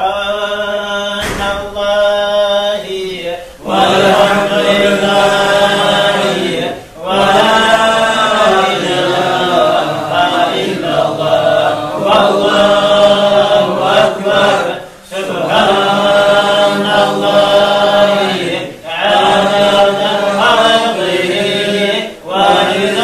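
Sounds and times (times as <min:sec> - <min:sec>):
man chanting: 0:00.0 - 0:22.0.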